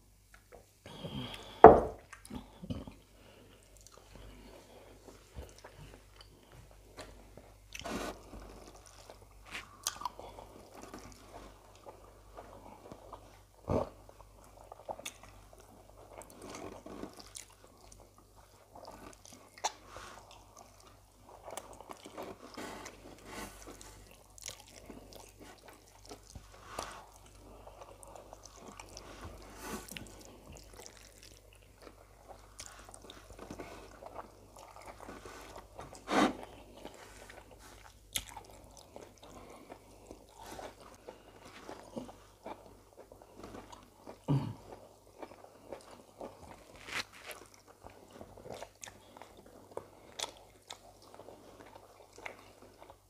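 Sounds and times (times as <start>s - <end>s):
chewing and wet mouth sounds: 0.3s - 53.0s.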